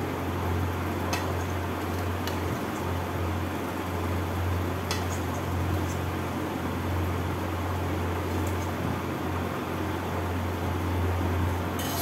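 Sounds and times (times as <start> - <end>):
fan hum and hiss: 0.0 - 12.0.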